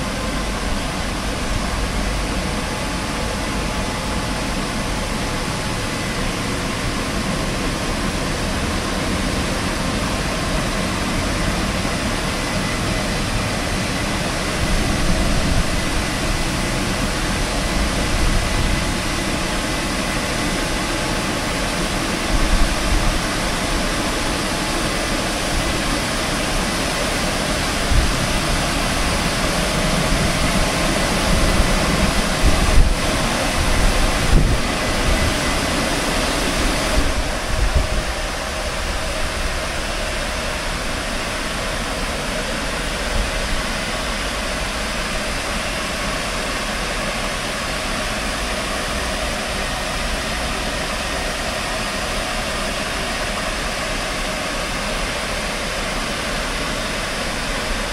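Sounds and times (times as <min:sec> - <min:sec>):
machinery hum: 0:00.0 - 0:57.9
spraying water hiss: 0:00.0 - 0:57.9.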